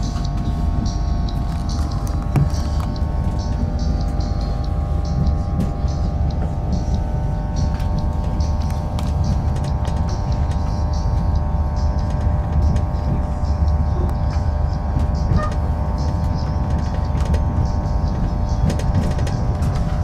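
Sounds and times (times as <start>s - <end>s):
constant whine: 0.0s - 20.0s
train low rumble: 0.0s - 20.0s.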